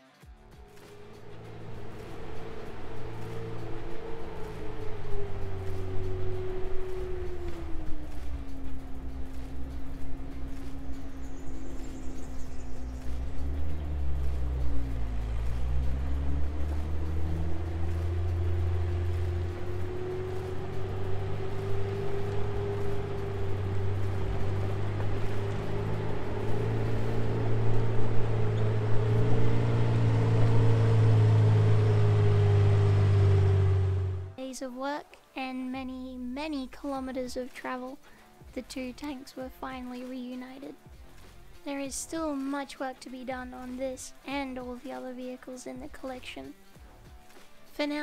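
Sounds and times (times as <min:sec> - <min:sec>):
tank engine approaching: 0:00.0 - 0:48.0.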